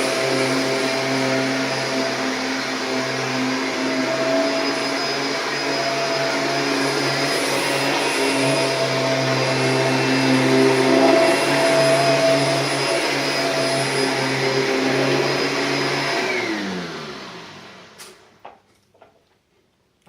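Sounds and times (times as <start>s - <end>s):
vacuum cleaner motor hum: 0.0s - 18.4s.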